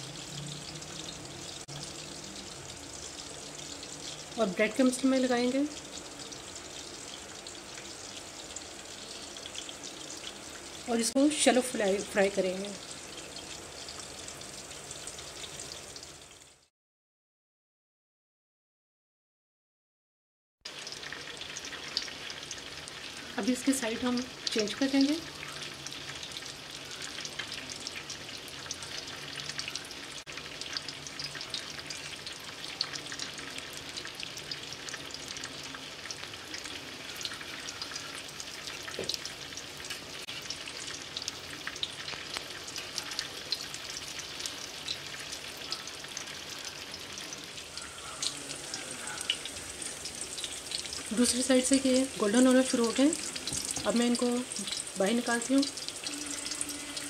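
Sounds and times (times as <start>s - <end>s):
food sizzling in hot oil: 0.0s - 16.7s, 20.7s - 57.0s.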